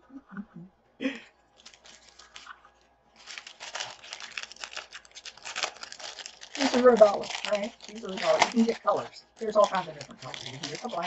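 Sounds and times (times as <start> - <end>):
plastic bag crinkling: 1.5 - 11.0.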